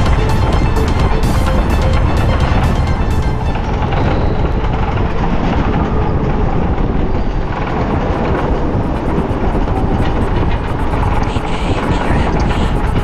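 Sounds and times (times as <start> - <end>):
electric go-kart running: 0.0 - 13.0.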